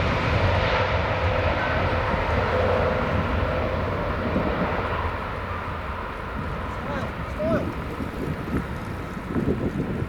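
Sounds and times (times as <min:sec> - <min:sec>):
jet engines at takeoff: 0:00.0 - 0:10.0.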